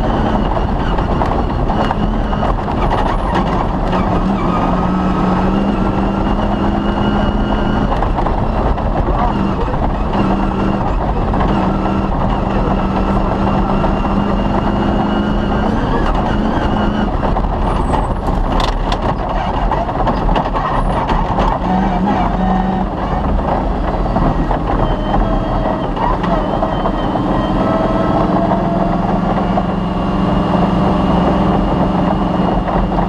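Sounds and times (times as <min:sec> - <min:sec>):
rally car engine: 0:00.0 - 0:33.0
rattle and road noise: 0:00.0 - 0:33.0.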